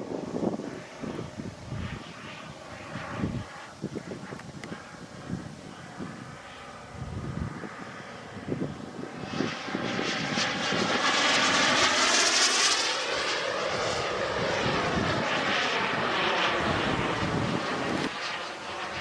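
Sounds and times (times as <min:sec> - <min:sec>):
small gas-turbine engine running: 0:00.0 - 0:19.0.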